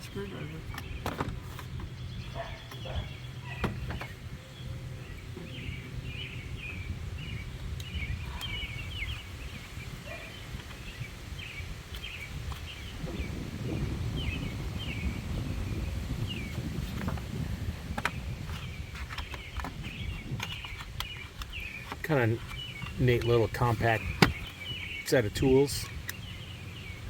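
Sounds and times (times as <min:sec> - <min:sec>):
low outdoor rumble: 0:00.0 - 0:27.0
small birds chirping: 0:00.0 - 0:27.0.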